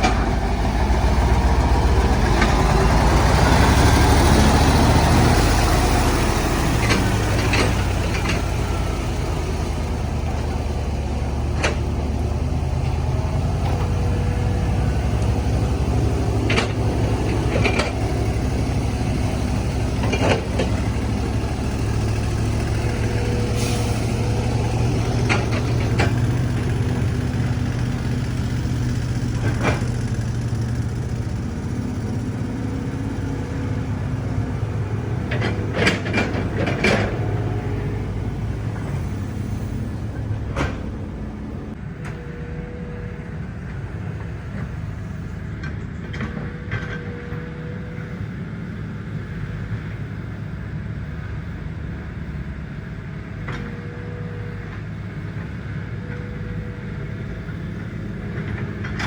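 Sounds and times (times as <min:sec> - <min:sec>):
earthmoving machine diesel engine: 0:00.0 - 0:59.0.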